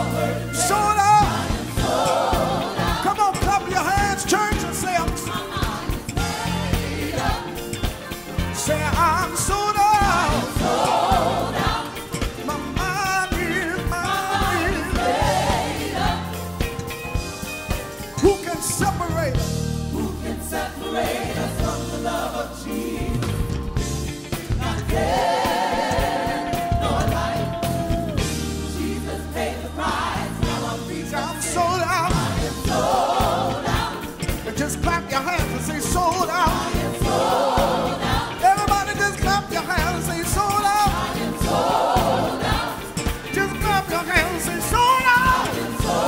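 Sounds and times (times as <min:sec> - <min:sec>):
band with steady beat: 0:00.0 - 0:46.0
gospel choir singing: 0:00.0 - 0:46.0.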